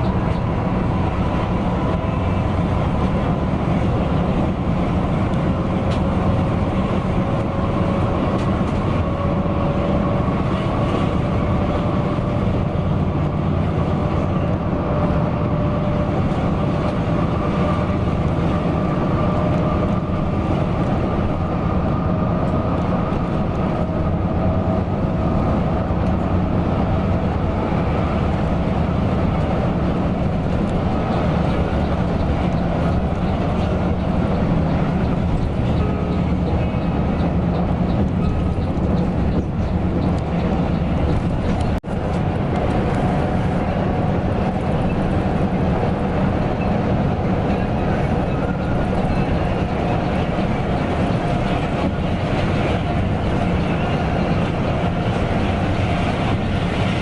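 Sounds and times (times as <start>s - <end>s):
bus engine rumble: 0.0s - 57.0s
road noise: 0.0s - 57.0s.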